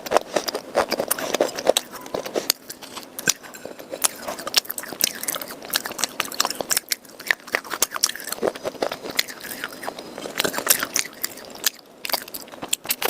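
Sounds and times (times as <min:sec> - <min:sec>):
person chewing crunchy clay: 0:00.0 - 0:13.0.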